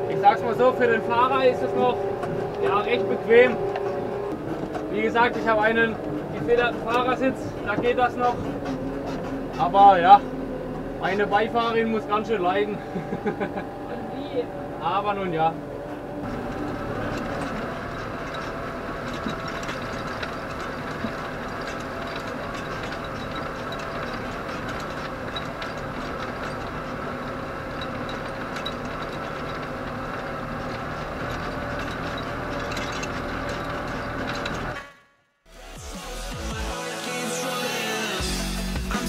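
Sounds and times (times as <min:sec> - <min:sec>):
harrow tines clattering: 0:00.0 - 0:35.0
tractor engine running: 0:00.0 - 0:39.0.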